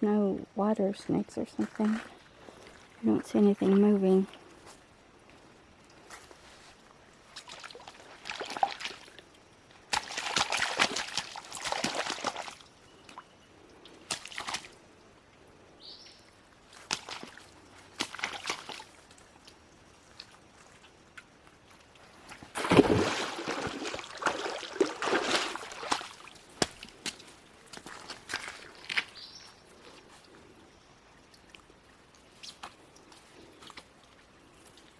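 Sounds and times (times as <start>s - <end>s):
creek water splashing: 1.6s - 34.9s.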